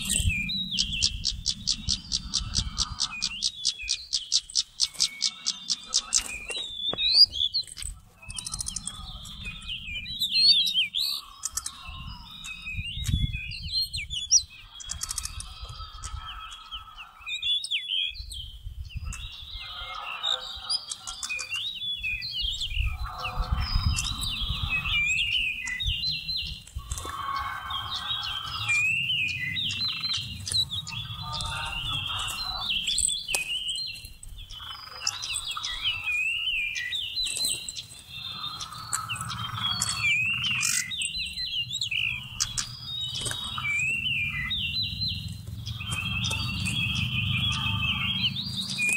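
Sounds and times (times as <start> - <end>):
bird singing whistled phrases: 0.0 - 48.9.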